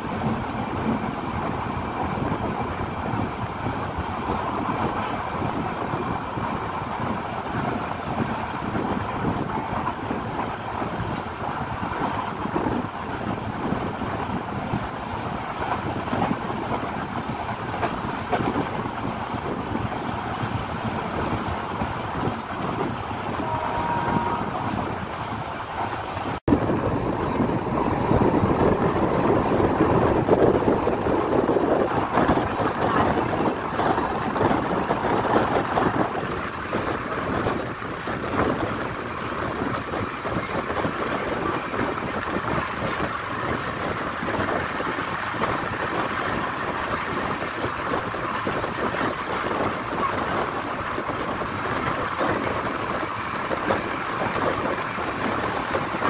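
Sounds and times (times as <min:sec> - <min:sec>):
train running at speed: 0:00.0 - 0:56.0.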